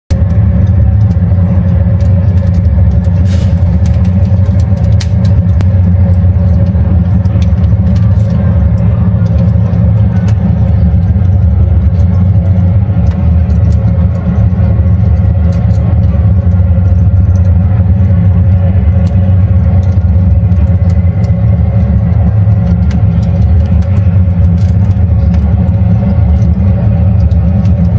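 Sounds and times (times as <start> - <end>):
steady low rumble: 0.0 - 27.9
fire crackling with sharp pops: 0.1 - 27.9.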